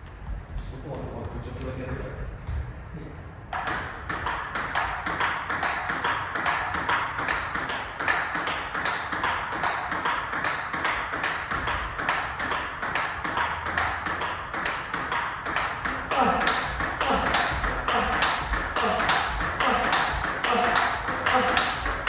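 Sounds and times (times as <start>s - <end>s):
ping-pong ball hits: 3.6s - 22.0s.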